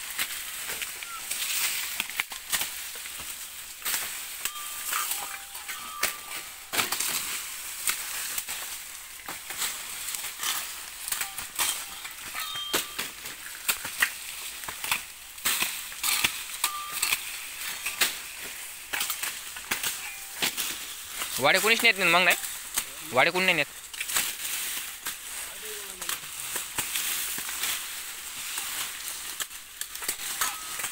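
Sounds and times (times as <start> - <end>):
dry leaves crackling and rustling: 0.0 - 30.9
stalks snapping and chopping: 0.0 - 30.9.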